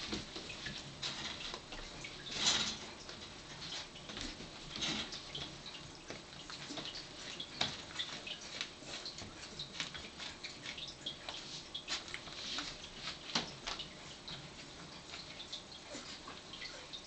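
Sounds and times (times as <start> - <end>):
puppies' small ticks and clicks: 0.0 - 17.0
puppies' faint high squeaks: 0.1 - 17.0.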